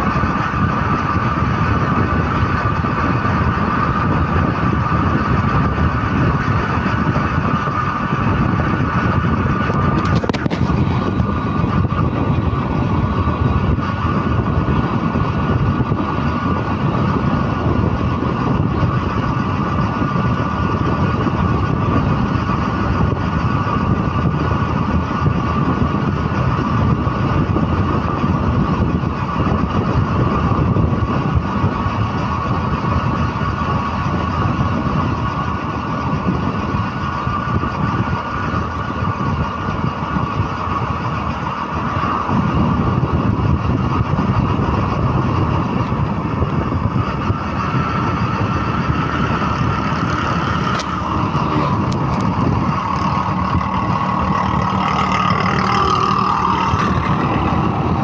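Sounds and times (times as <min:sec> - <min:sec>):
constant high whine: 0:00.0 - 0:58.0
vehicle engine and road noise: 0:00.0 - 0:58.0.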